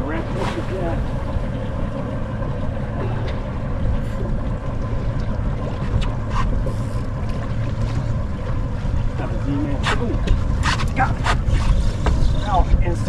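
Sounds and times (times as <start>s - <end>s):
water lapping at boat hull: 0.0s - 13.0s
wind rumble on microphone: 0.0s - 13.0s.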